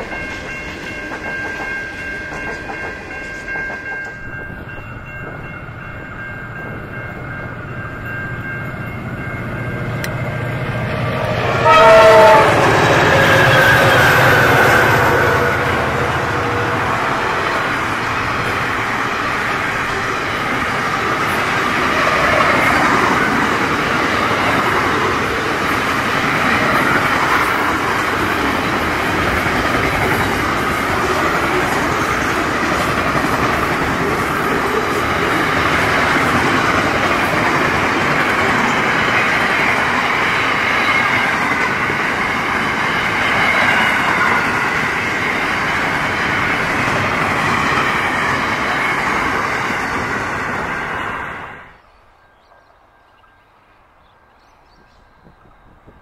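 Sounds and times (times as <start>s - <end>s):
train wheels rolling on rails: 0.0s - 51.8s.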